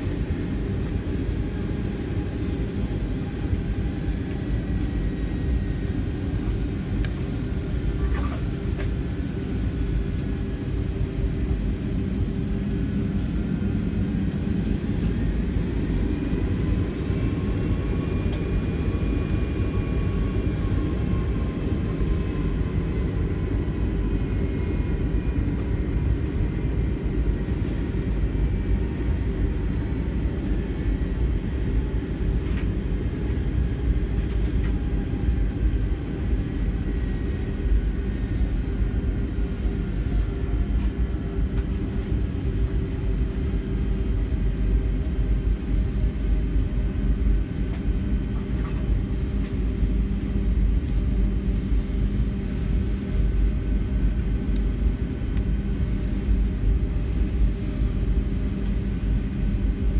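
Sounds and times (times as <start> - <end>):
faint engine whine: 0.0 - 59.9
jet engines rumbling in cabin: 0.0 - 59.9.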